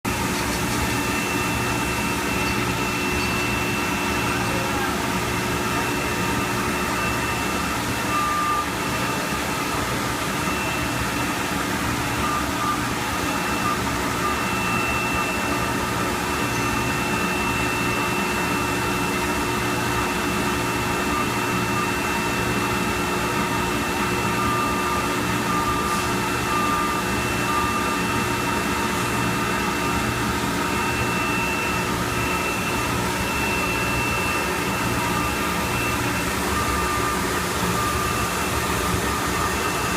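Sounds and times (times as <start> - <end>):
parts washer humming: 0.0 - 39.9.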